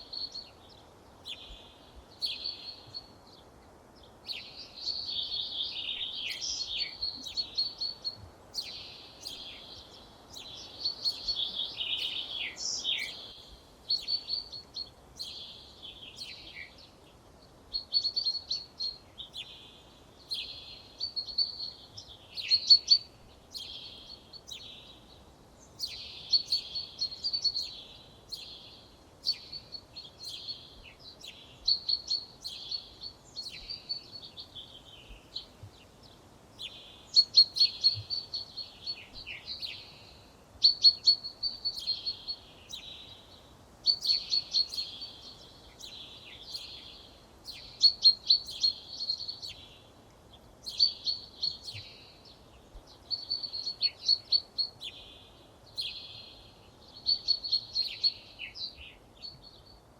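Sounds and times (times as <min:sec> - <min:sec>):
faint background hiss: 0:00.0 - 0:59.9
songbirds chirping: 0:00.0 - 0:59.9.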